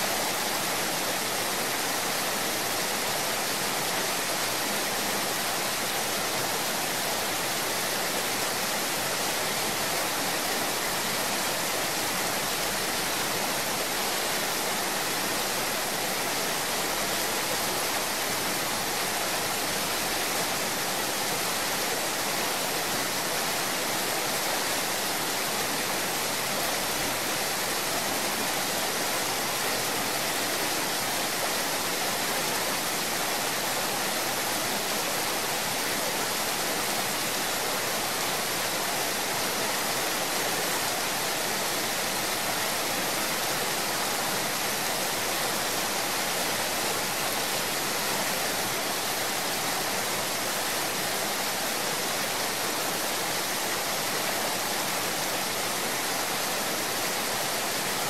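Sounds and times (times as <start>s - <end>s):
rush of falling water: 0.0s - 58.0s.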